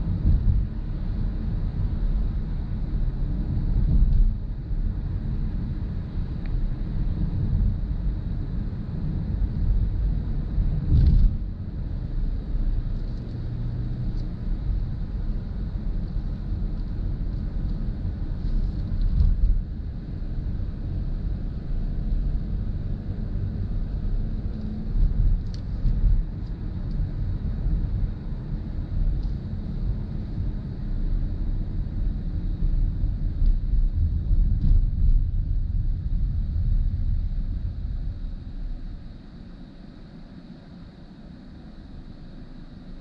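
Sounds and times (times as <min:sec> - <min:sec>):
road and tyre rumble: 0:00.0 - 0:43.0.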